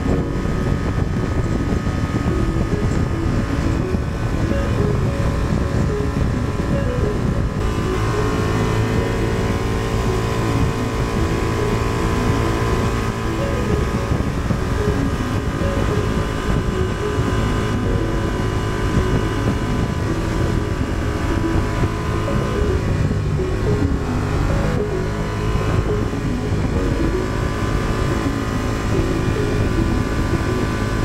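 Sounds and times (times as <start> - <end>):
motorcycle engine running: 0.0 - 31.0
road noise: 0.0 - 31.0
rushing wind: 0.0 - 31.0.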